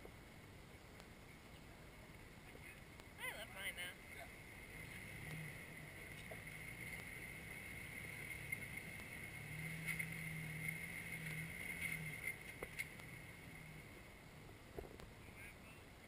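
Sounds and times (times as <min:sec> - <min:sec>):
faint high whine: 0:00.0 - 0:16.0
off-road engine droning: 0:01.9 - 0:16.0.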